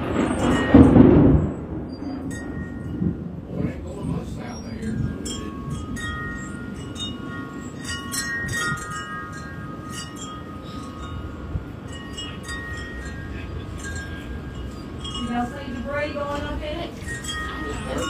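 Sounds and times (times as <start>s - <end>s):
low wind rumble: 0.0s - 18.0s
wind chimes ringing: 0.0s - 18.0s.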